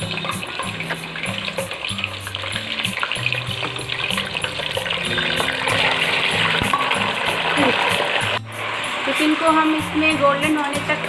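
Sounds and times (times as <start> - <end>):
chicken sizzling in hot fat: 0.0 - 11.0.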